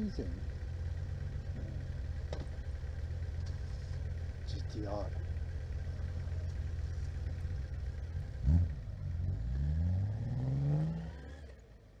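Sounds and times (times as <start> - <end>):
vehicle engine idling and revving: 0.0 - 12.0.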